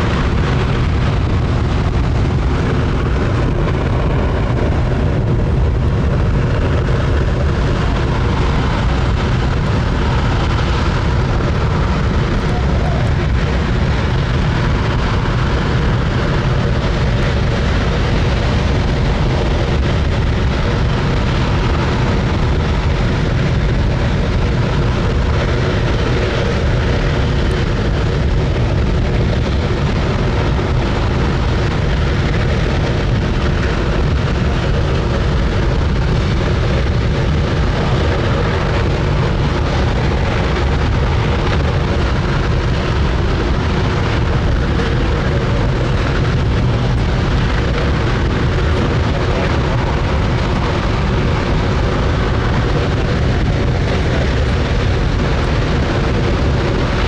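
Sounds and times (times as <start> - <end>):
rocket engine firing: 0.0 - 57.0.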